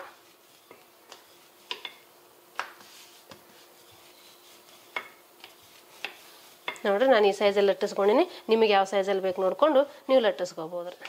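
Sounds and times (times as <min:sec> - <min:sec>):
rubbing dough: 0:00.0 - 0:10.2.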